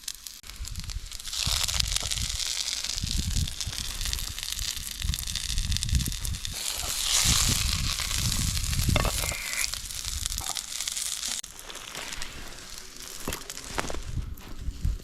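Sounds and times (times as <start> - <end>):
food sizzling in a pan: 0.0 - 14.2.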